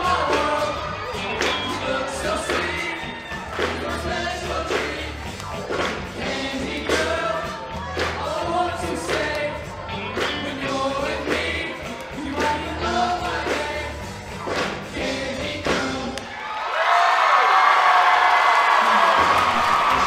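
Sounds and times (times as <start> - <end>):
bass line: 0.0 - 16.2
drum beat: 0.0 - 16.2
choir singing: 0.0 - 16.5.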